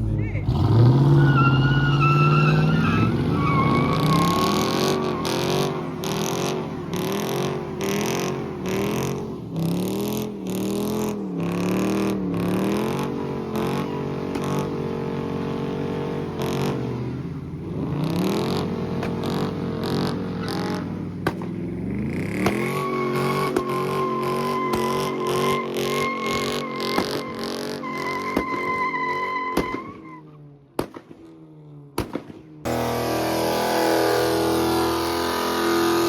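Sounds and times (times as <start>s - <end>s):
car engine revving: 0.0s - 30.0s, 32.7s - 36.0s.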